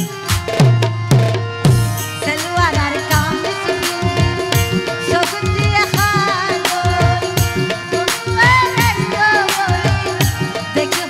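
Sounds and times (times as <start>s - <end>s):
harmonium holding chords: 0.0s - 11.0s
tabla strokes: 0.0s - 11.0s.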